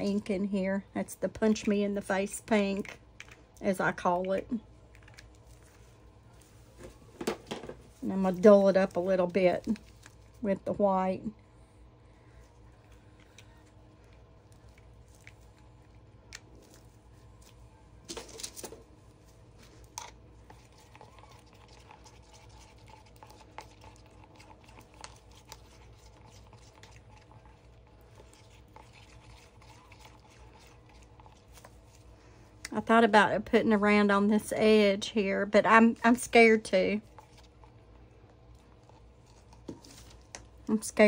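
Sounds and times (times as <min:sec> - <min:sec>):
faint room hum: 0:00.0 - 0:41.0.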